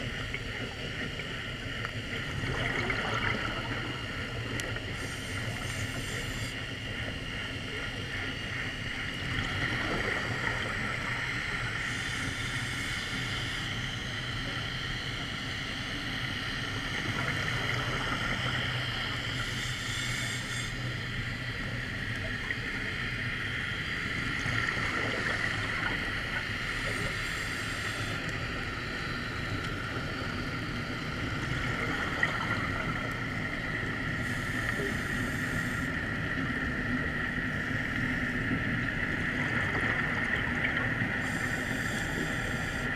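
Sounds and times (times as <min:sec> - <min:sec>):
underwater drone with hiss: 0:00.0 - 0:42.9.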